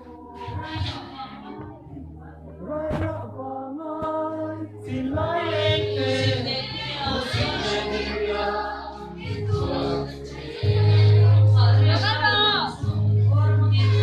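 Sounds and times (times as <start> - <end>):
mixed group singing: 0.0 - 14.0.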